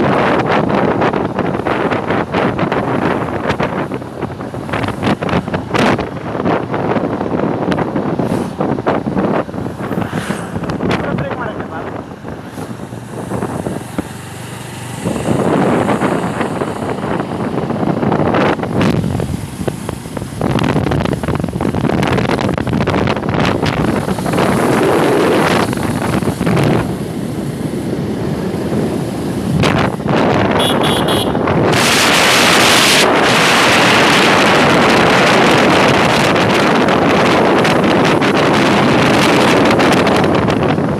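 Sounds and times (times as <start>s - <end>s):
motorcycle running: 0.0s - 40.9s
road noise: 0.0s - 40.9s
wind buffeting microphone: 0.0s - 40.9s.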